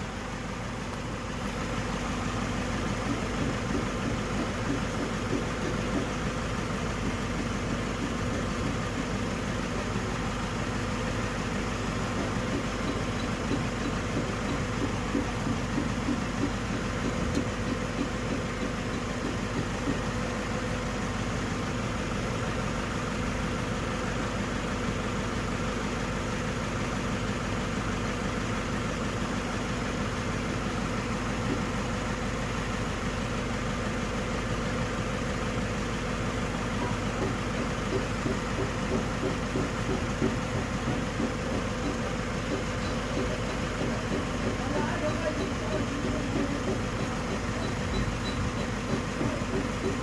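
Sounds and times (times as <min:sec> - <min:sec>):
petrol engine idling: 0:00.0 - 0:50.0.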